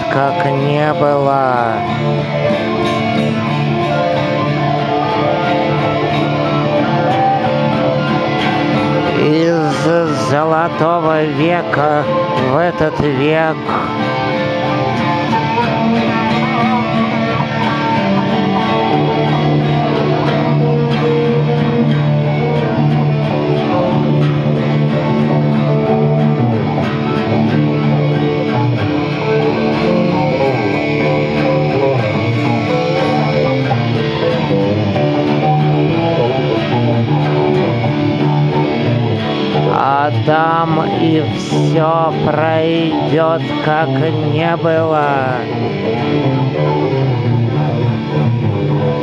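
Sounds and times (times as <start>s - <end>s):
acoustic guitar strumming: 0.0s - 49.0s
electric guitar playing: 0.0s - 49.0s.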